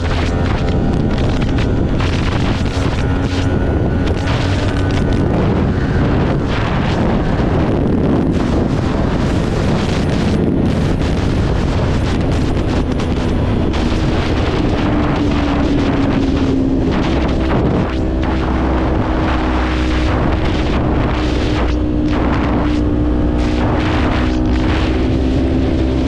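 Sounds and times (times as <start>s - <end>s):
motorcycle engine at speed: 0.0s - 26.0s
wind noise on microphone: 0.0s - 26.0s.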